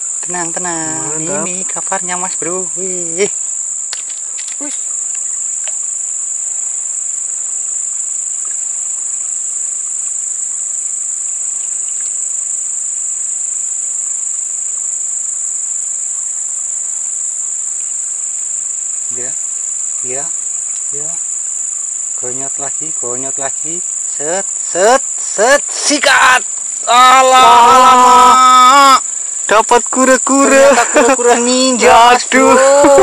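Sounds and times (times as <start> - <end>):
shrill insect drone: 0.0 - 33.0.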